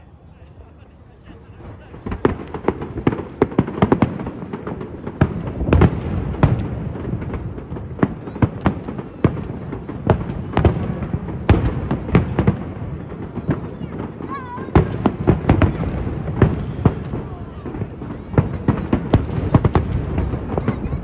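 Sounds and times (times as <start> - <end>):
fireworks rumble: 0.0 - 21.0
fireworks bangs: 1.2 - 21.0.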